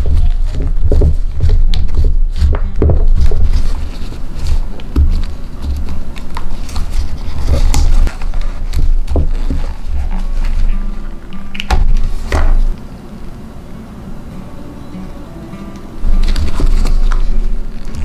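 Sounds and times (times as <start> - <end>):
rubbery rustling and clicks: 0.0 - 12.8, 16.0 - 18.0.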